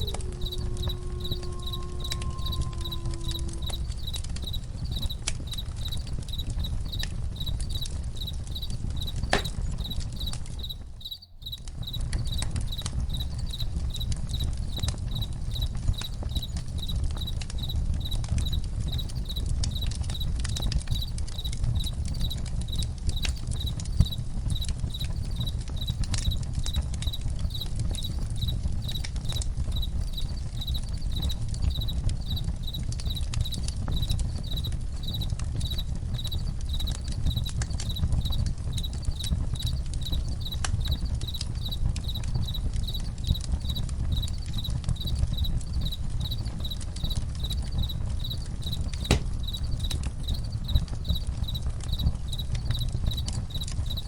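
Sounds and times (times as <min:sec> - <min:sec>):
campfire crackling and popping: 0:00.0 - 0:54.0
crickets chirping: 0:00.0 - 0:54.0.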